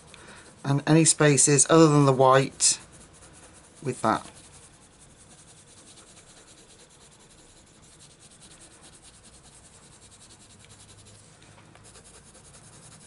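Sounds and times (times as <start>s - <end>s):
pencil shading on paper: 0.0s - 13.0s.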